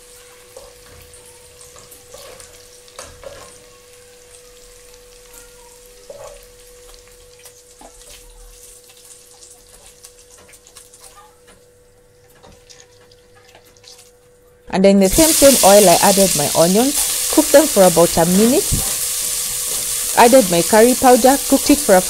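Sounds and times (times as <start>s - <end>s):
meat sizzling in oil: 0.0s - 11.2s, 15.0s - 22.0s.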